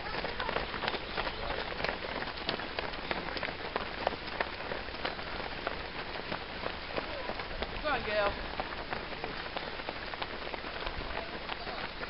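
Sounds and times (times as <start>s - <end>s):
runners footsteps splashing on wet road: 0.0s - 12.0s.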